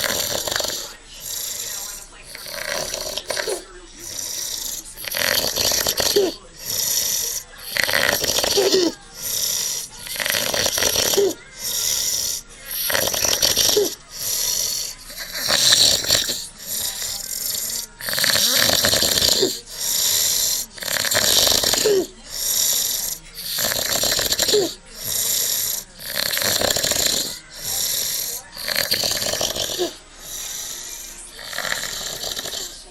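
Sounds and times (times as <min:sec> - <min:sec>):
man snoring loudly: 0:00.0 - 0:32.9.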